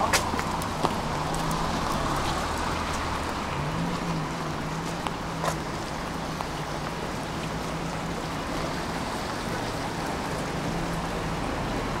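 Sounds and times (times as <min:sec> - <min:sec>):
rain on a wet street: 0:00.0 - 0:12.0.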